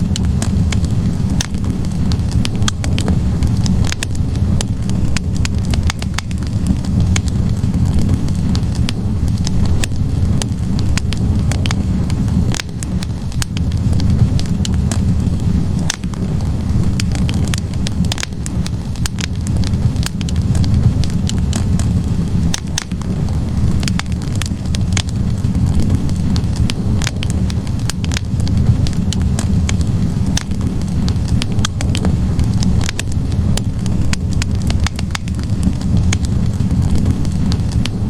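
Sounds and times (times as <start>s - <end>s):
burning logs crackling and popping: 0.0s - 38.0s
fire flames rushing: 0.0s - 38.0s.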